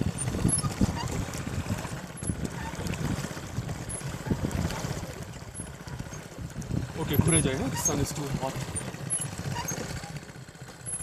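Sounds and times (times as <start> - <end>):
wind buffeting microphone: 0.0 - 10.0
boat propeller churning: 0.0 - 11.0
water moving along hull: 0.0 - 11.0.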